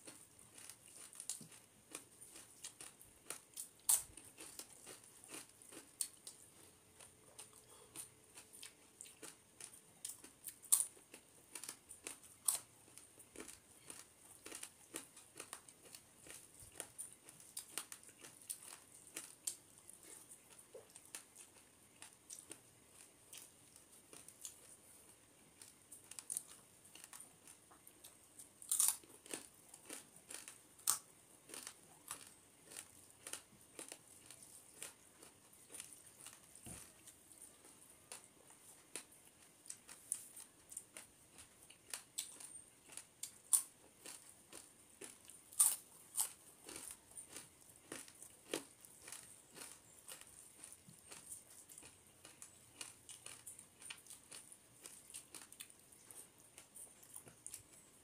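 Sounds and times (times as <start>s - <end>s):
person chewing: 0.0s - 57.9s.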